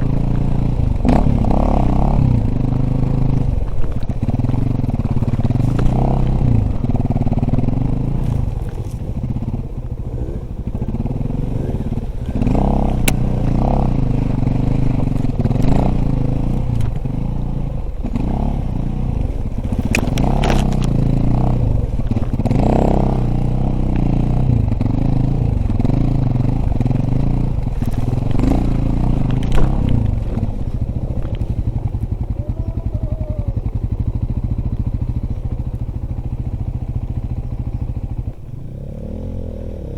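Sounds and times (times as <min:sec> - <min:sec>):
bike knocking and clattering: 0:00.0 - 0:38.5
dirt bike engine revving: 0:00.0 - 0:39.9.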